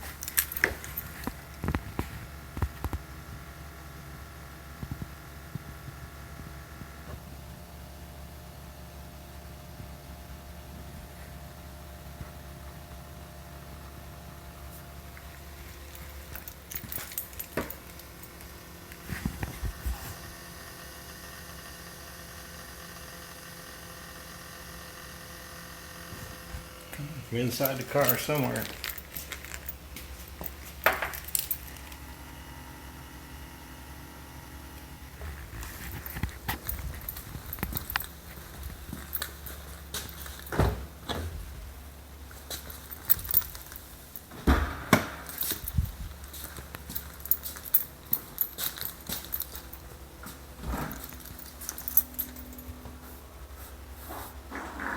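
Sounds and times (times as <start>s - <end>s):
electrical hum with fixed tones: 0.0s - 54.9s.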